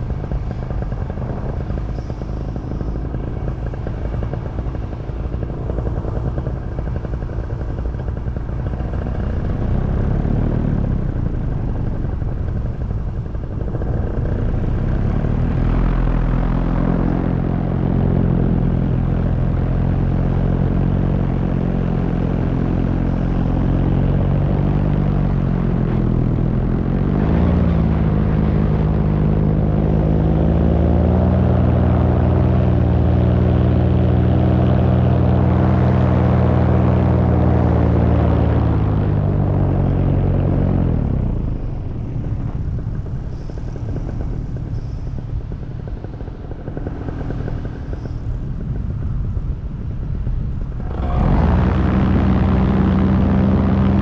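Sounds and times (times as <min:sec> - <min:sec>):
paramotor engine and propeller: 0:00.0 - 0:54.0
wind rush on microphone: 0:00.0 - 0:54.0.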